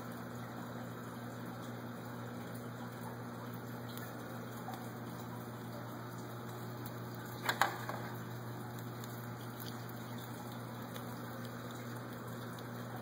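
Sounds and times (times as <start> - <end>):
room hum and hiss: 0.0 - 13.0.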